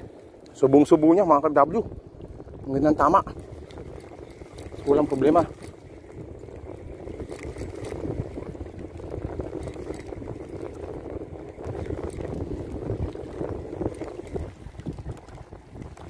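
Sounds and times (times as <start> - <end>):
water lapping against rocks: 0.0 - 16.0
wind rumbling on microphone: 0.0 - 16.0.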